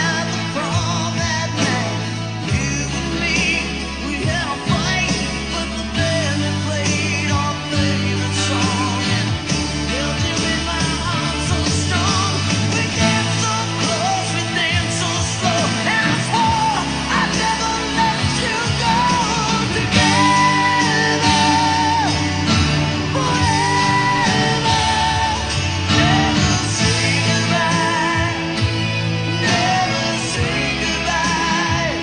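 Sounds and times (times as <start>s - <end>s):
guitar accompaniment: 0.0s - 32.0s
person singing: 0.0s - 32.0s.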